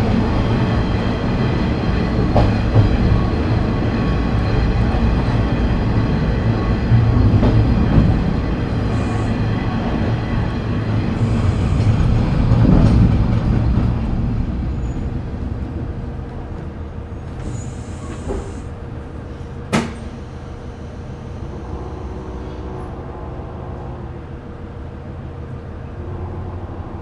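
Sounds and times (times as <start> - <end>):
diesel railcar rumbling: 0.0 - 27.0.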